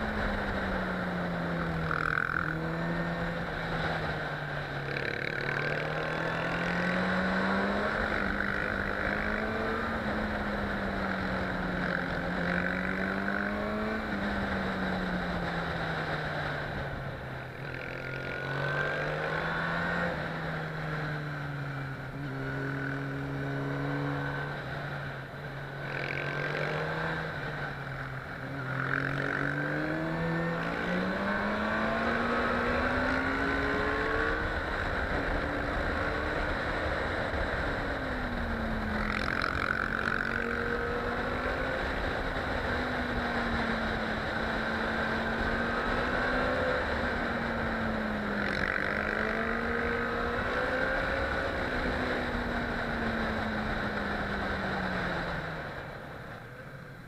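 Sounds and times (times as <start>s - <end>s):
motorcycle engine revving: 0.0s - 56.8s.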